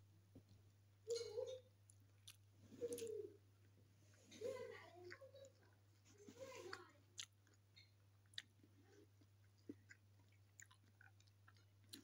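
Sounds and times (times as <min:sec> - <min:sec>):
chewing food: 0:01.8 - 0:12.0.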